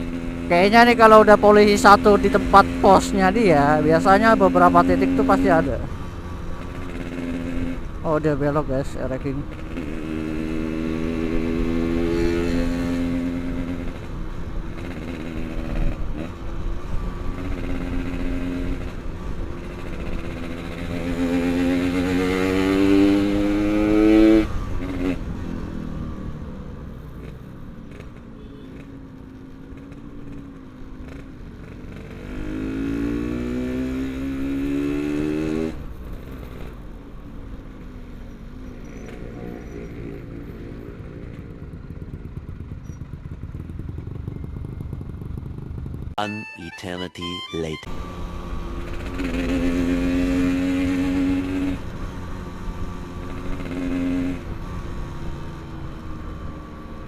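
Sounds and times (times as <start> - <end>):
motorcycle engine revving: 0.0 - 36.8, 38.7 - 46.2, 47.8 - 57.0.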